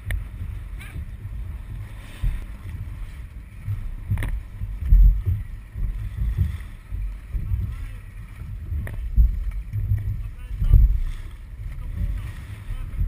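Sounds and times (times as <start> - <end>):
paddles dipping and splashing: 0.0 - 13.0
wind rumble on microphone: 0.0 - 13.0.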